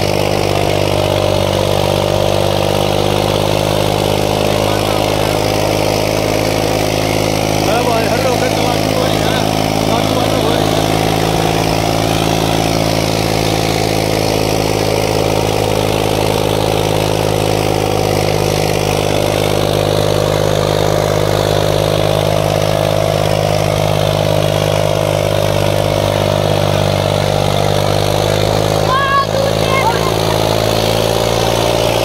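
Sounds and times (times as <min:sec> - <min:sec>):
diesel tractor engine under load: 0:00.0 - 0:32.0.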